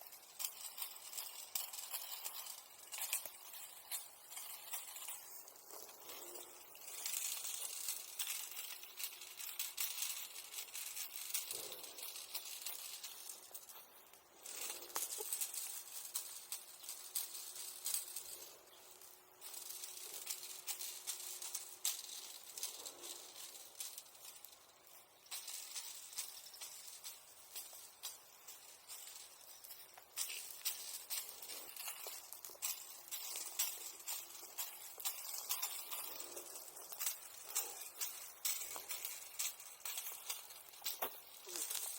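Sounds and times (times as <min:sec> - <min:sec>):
embers crackling: 0:00.0 - 0:41.9
soft hiss: 0:00.0 - 0:41.9.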